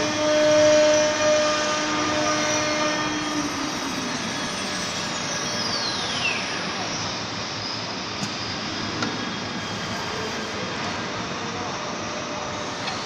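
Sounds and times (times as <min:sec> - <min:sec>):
steady machinery noise: 0:00.0 - 0:13.0.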